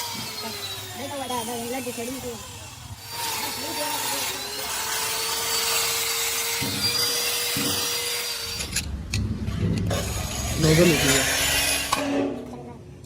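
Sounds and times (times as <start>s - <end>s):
power tool abrading metal: 0.0s - 12.6s.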